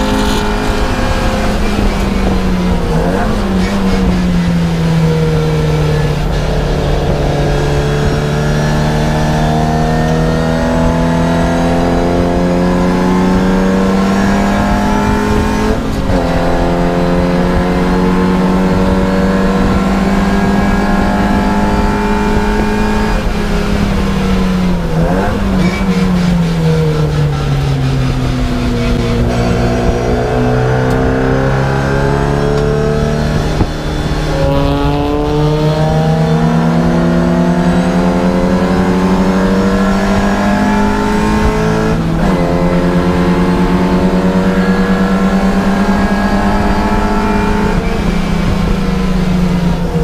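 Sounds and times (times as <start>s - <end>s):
racing car engine at full throttle: 0.0s - 50.0s.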